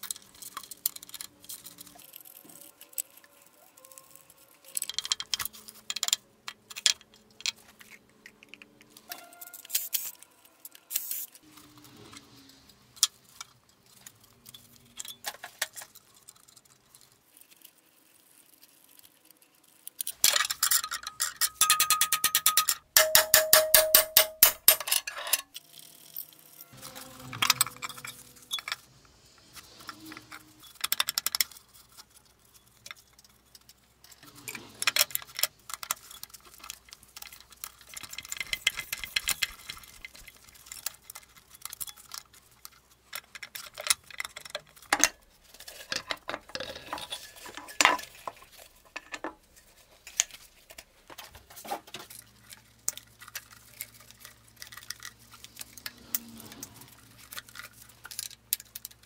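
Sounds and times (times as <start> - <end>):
metal parts clinking and knocking: 0.0 - 11.3, 13.0 - 17.0, 20.0 - 29.0, 29.6 - 59.0.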